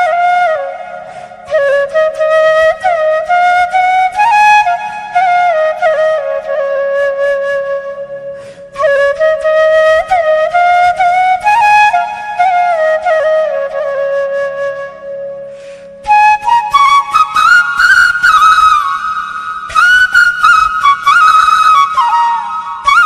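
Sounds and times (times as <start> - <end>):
bamboo flute melody: 0.0 - 23.0.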